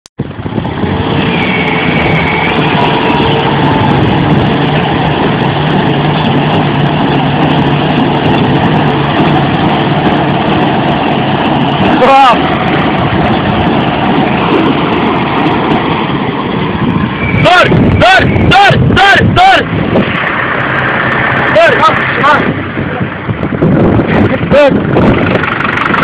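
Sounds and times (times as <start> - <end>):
tractor engines droning: 0.2 - 26.0.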